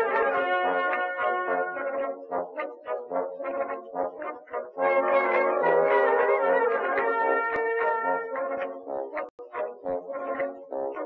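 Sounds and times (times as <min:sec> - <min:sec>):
brass music short notes: 0:00.0 - 0:11.0.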